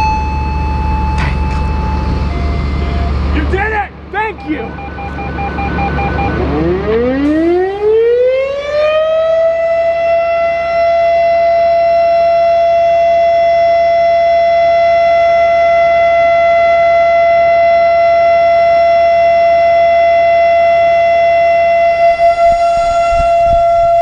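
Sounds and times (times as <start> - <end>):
warning siren winding up: 0.0 - 3.4, 4.6 - 24.0.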